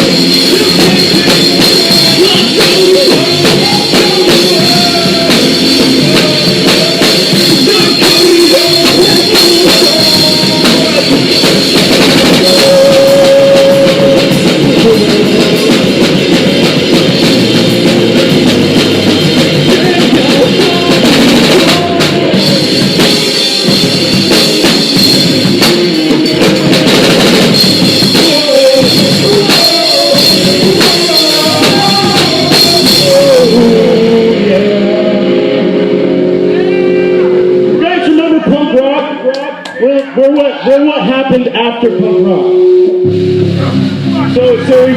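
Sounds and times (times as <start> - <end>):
punk rock band playing: 0.0 - 44.9.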